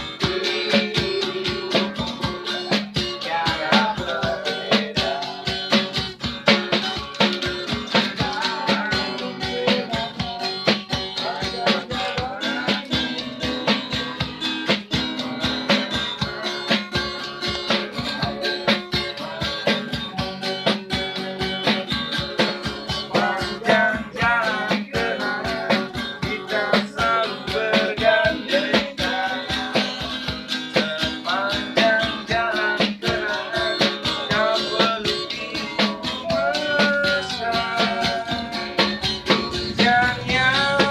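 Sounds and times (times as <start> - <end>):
acoustic guitar strumming: 0.0 - 40.9
hand drum beaten with stick: 0.0 - 40.9
young man singing: 0.0 - 40.9.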